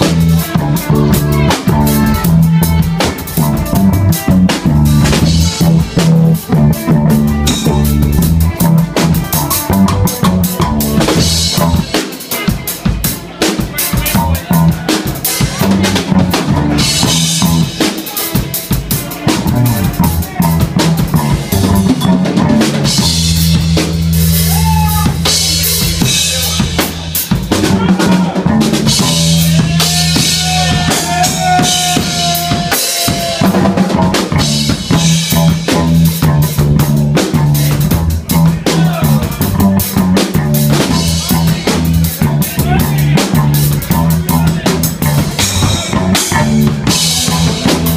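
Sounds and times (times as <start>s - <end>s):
bass guitar low notes: 0.0s - 12.0s, 12.6s - 17.9s, 18.6s - 47.9s
drum kit: 0.0s - 47.9s
electric guitar: 0.0s - 47.9s.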